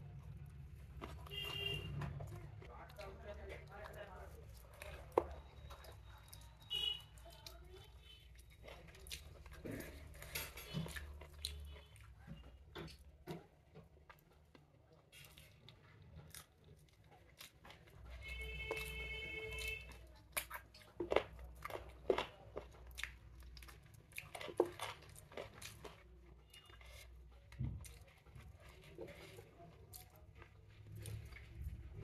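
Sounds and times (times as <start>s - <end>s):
chewing and crunching: 0.0s - 32.0s.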